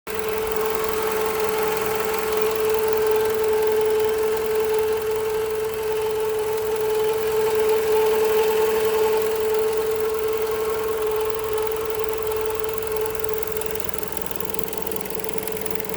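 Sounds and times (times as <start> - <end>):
car engine idling: 0.1 - 15.9
steady whine: 0.1 - 15.9.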